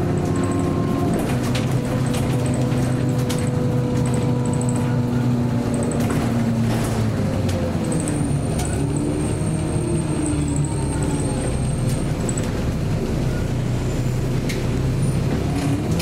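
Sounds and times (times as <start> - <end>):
bus engine and drivetrain hum: 0.0 - 16.0.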